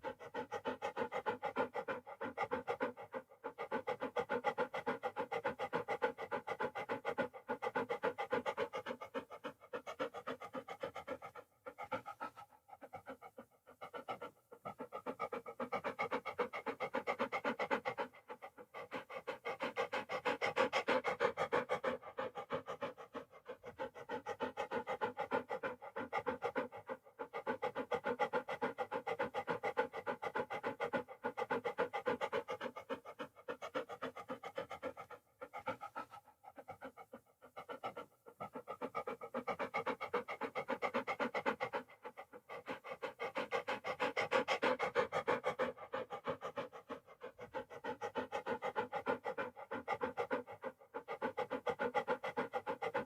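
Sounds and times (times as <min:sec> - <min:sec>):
dog panting: 0:00.0 - 0:53.0.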